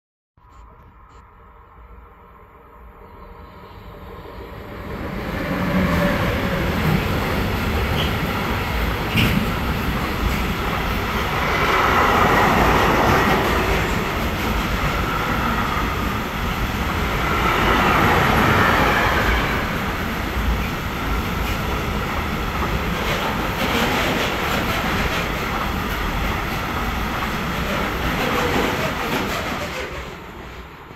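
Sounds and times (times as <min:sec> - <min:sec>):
train wheels rumbling on rails: 0:03.8 - 0:30.9.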